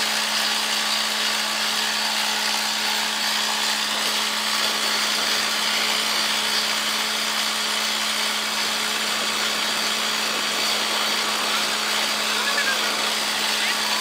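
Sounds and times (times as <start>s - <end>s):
drilling rig running: 0.0s - 14.0s.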